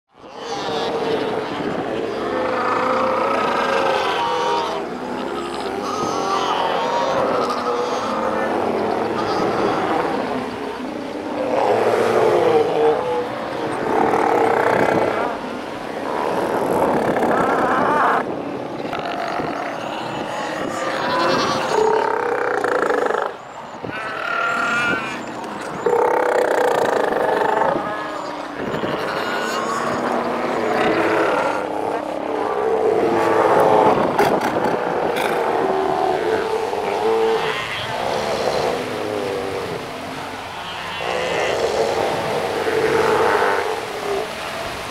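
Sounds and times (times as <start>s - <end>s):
seals roaring and crying: 0.2s - 44.9s.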